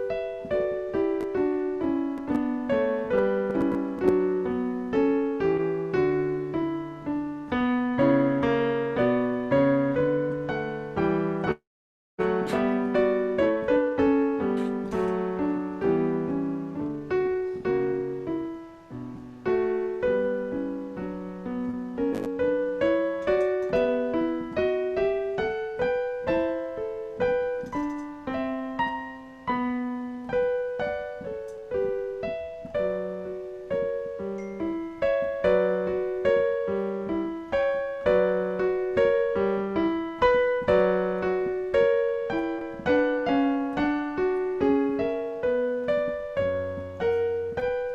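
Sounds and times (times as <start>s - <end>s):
piano music: 0.0s - 11.6s, 12.2s - 47.9s.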